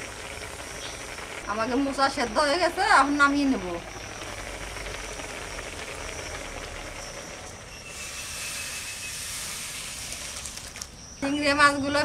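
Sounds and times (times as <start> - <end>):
hot water hissing while draining: 0.0 - 11.1.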